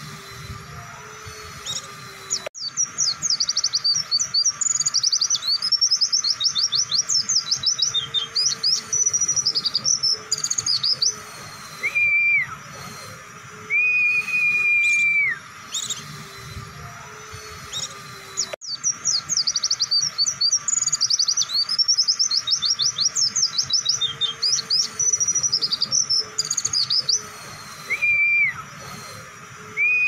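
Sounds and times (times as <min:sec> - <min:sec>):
bird fast high chirping: 0:00.0 - 0:30.0
bird long whistled notes: 0:00.0 - 0:30.0.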